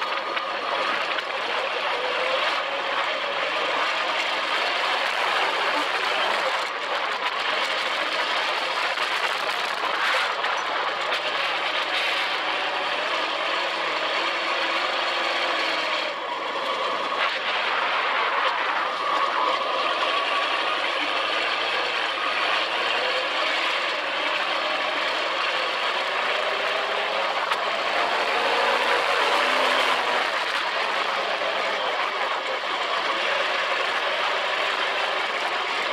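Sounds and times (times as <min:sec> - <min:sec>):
buggy engine revving: 0:00.0 - 0:35.9.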